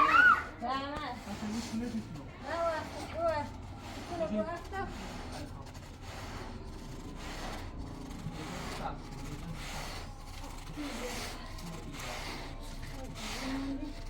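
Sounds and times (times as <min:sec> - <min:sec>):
rubbing or scrubbing strokes: 0:00.0 - 0:14.0.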